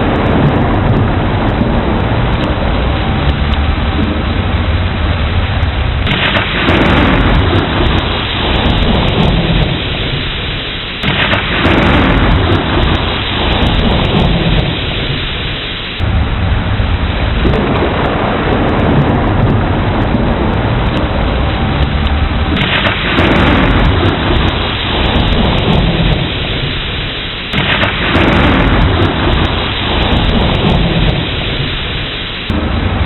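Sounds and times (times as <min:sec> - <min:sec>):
heavy rain falling: 0:00.0 - 0:33.0
rolling thunder: 0:00.0 - 0:33.0.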